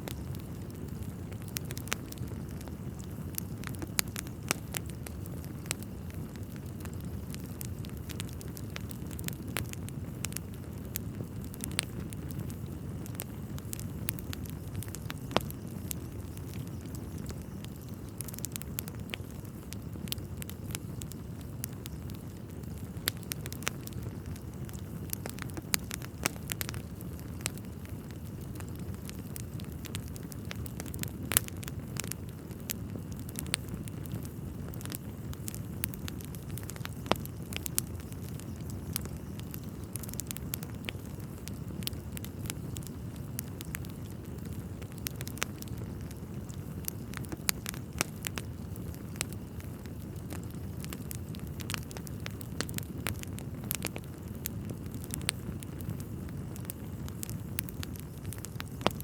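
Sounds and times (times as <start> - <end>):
fire burning with crackles: 0.0 - 59.0.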